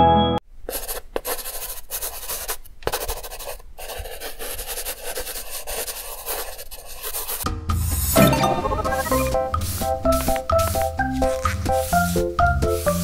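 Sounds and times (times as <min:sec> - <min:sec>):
marker pen scratching on paper: 0:00.7 - 0:07.4, 0:08.9 - 0:13.0.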